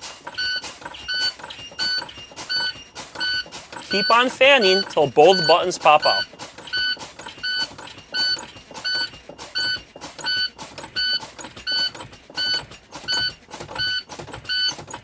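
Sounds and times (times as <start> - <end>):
quick ticking clicks: 0.0 - 15.0
warning alarm beeping: 0.0 - 15.0.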